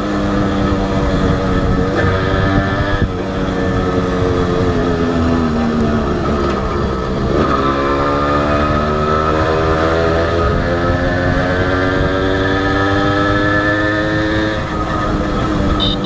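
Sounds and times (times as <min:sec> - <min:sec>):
two-stroke motorcycle engine: 0:00.0 - 0:16.0.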